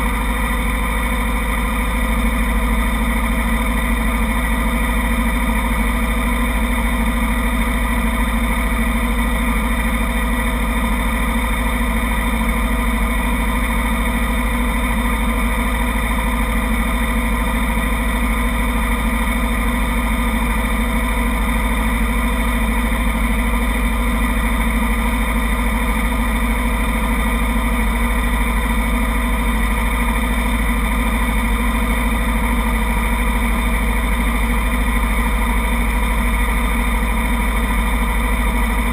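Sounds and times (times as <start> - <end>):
motorcycle engines idling: 0.0 - 38.9.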